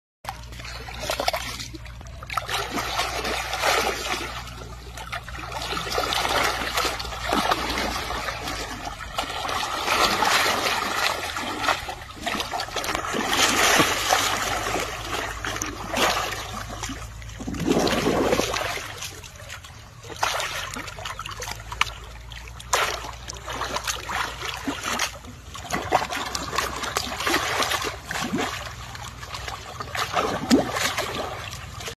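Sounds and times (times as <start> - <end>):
water splashing and sloshing: 0.2 - 31.9
steady low hum: 0.3 - 31.9.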